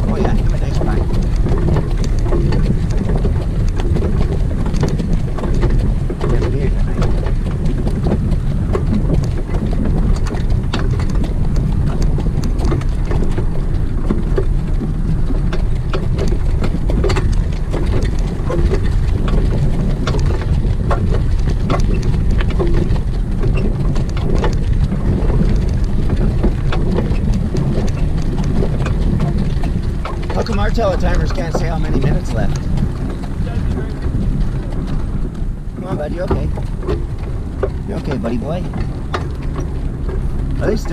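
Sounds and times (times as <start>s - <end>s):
horse hooves pattering: 0.0s - 40.9s
wind rumbling on microphone: 0.0s - 40.9s.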